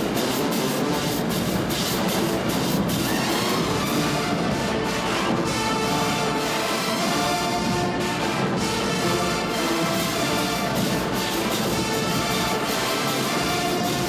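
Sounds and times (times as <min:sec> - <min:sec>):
brass-heavy music: 0:00.0 - 0:14.0.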